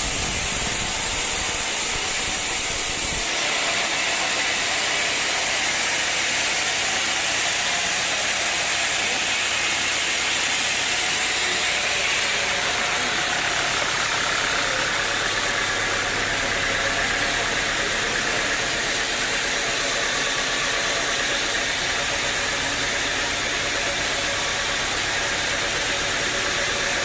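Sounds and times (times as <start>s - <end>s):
sawmill machinery hum and hiss: 0.0s - 27.0s.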